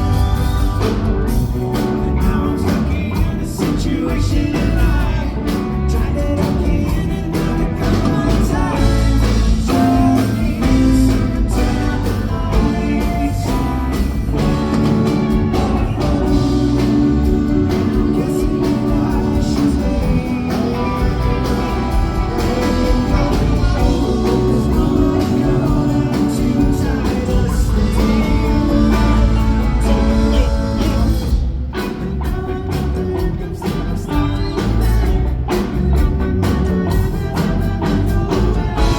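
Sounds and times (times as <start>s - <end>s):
bass guitar: 0.0s - 38.9s
drums: 0.0s - 38.9s
electric guitar: 0.0s - 38.9s
person singing: 0.0s - 38.9s.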